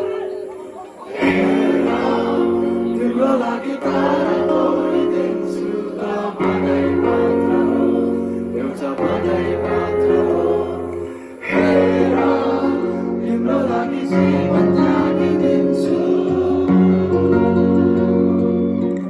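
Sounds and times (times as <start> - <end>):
group of voices singing: 0.0 - 18.3.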